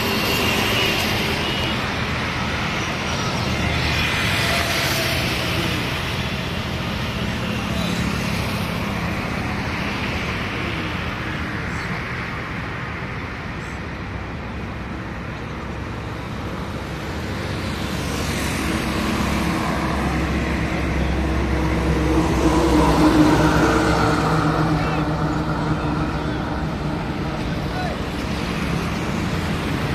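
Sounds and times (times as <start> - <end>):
road traffic passing: 0.0 - 29.9.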